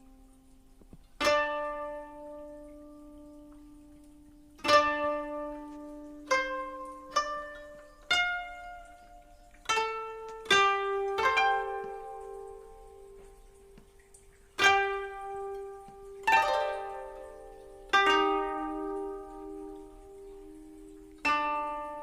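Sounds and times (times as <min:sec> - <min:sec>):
plucked string instrument notes: 0:00.0 - 0:22.0.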